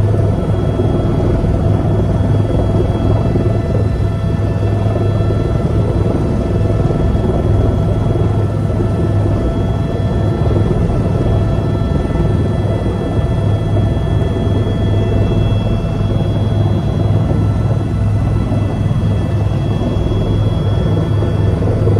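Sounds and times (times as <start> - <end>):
helicopter engine and rotor: 0.0 - 21.9
high engine whine: 0.0 - 21.9.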